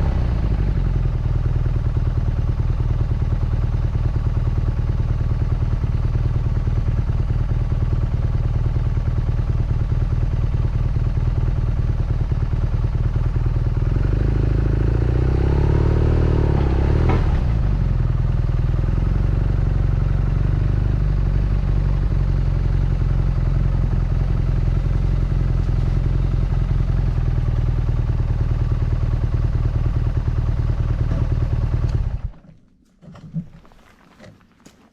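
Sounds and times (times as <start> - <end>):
motorcycle engine running: 0.0 - 32.4.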